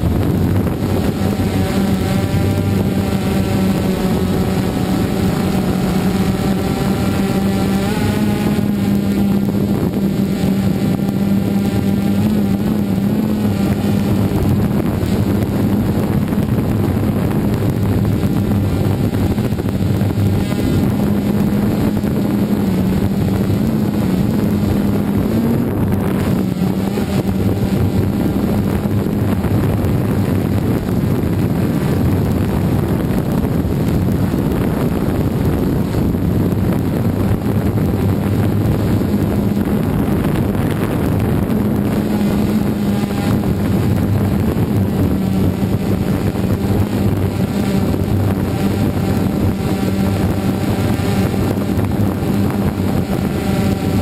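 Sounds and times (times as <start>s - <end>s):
drone propellers humming: 0.0s - 54.0s
rotor wash buffeting microphone: 0.0s - 54.0s.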